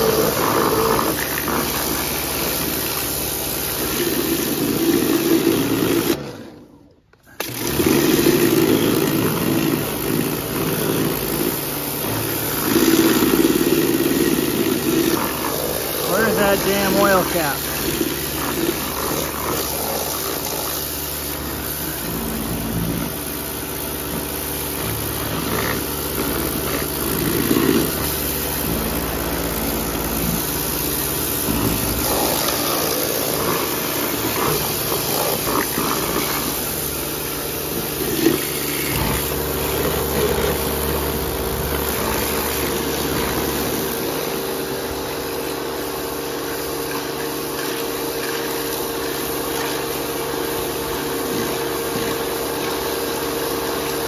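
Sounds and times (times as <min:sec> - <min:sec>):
water spraying against metal: 0:00.0 - 0:06.2, 0:07.4 - 0:54.0
pressure washer running: 0:00.0 - 0:54.0.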